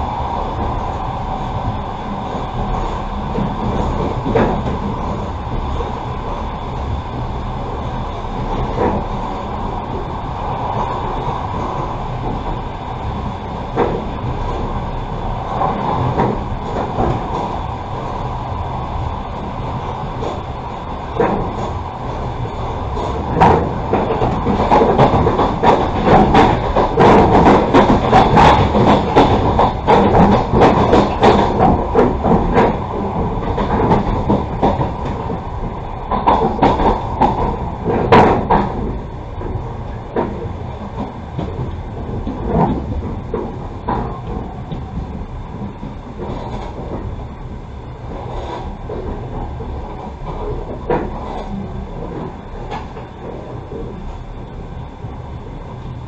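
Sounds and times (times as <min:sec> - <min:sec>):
train carriage rumbling: 0:00.0 - 0:56.0
train wheels clacking: 0:00.0 - 0:56.0.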